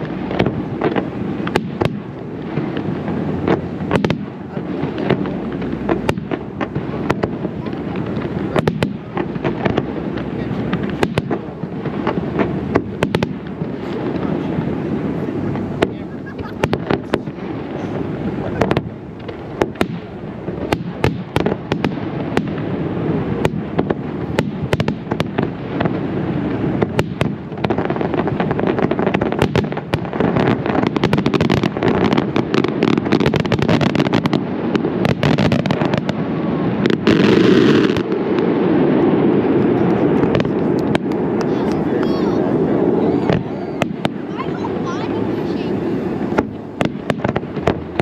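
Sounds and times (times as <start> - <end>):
continuous fireworks rumble: 0.0 - 48.0
hissing firework burst: 0.0 - 48.0.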